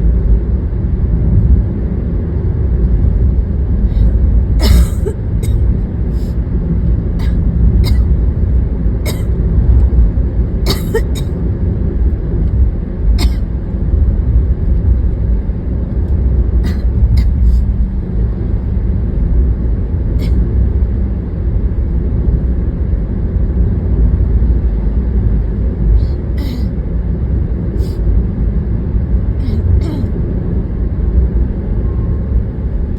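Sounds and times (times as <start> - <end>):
road and engine rumble in car: 0.0 - 32.9.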